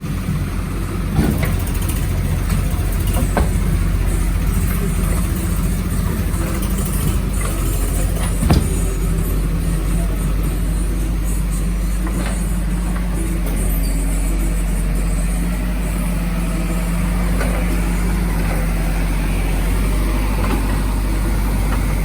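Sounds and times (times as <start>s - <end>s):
digger diesel engine running: 0.0s - 22.0s.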